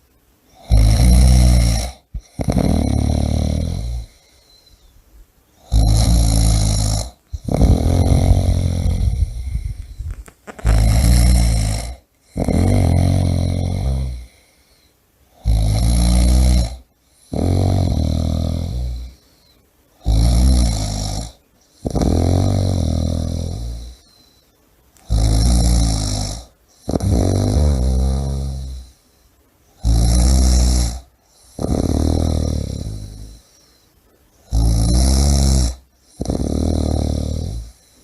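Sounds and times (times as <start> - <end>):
person snoring loudly: 0.5 - 4.4, 5.6 - 14.5, 15.3 - 19.2, 20.0 - 24.2, 25.0 - 29.0, 29.8 - 33.5, 34.4 - 38.0.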